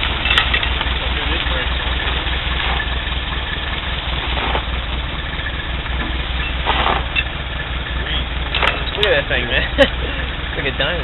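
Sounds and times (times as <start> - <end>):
vehicle engine throbbing at low revs: 0.0 - 11.0.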